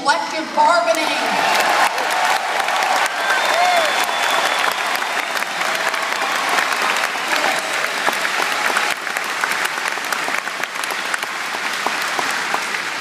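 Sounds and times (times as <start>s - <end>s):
crowd applauding and cheering: 1.0s - 13.0s.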